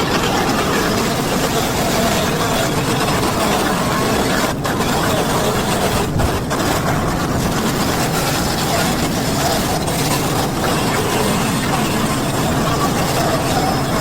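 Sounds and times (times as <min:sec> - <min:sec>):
petrol engine running: 0:00.0 - 0:14.0.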